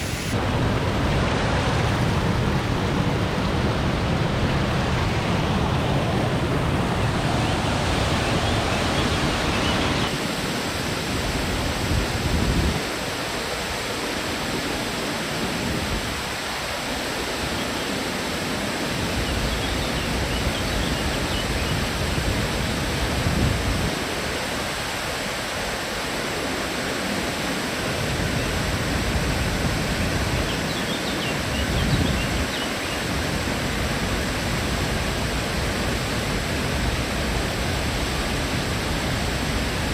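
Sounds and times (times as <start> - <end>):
cascading water rushing: 0.0 - 39.9.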